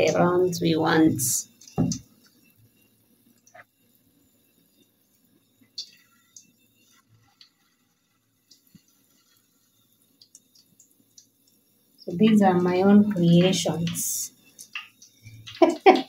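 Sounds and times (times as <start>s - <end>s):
dough frying in hot oil: 0.0s - 16.0s.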